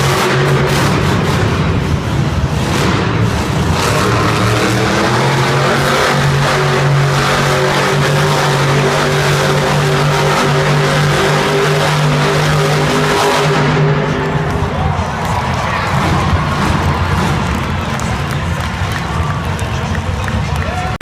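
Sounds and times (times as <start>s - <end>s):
truck engine revving loud: 0.0s - 21.0s.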